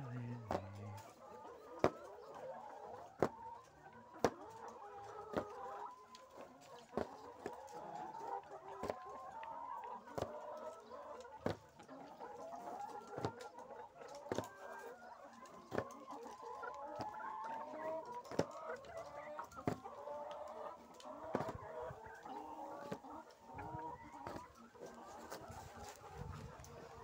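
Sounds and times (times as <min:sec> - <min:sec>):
hens clucking: 0:00.0 - 0:27.0.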